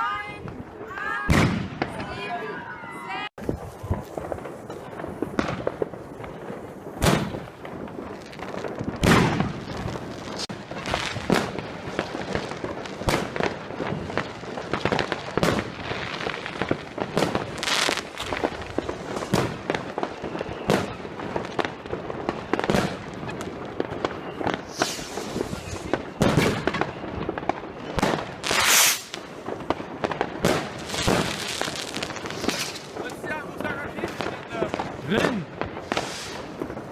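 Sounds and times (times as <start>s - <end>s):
firecrackers crackling: 0.0s - 36.9s
firework bangs: 0.1s - 36.9s.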